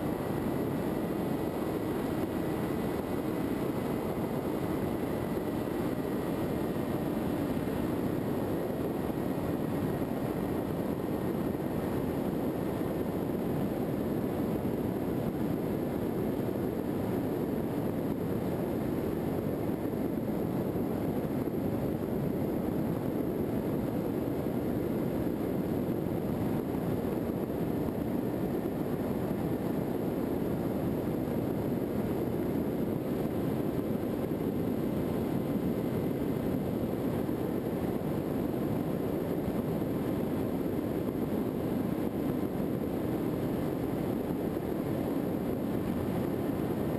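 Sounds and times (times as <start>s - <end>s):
faint steady whine: 0.0s - 46.9s.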